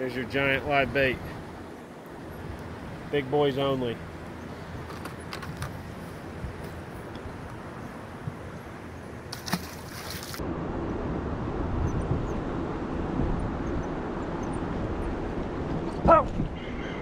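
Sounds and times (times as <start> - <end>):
water around a boat: 0.0 - 17.0
wind buffeting microphone: 0.4 - 9.3, 10.4 - 17.0.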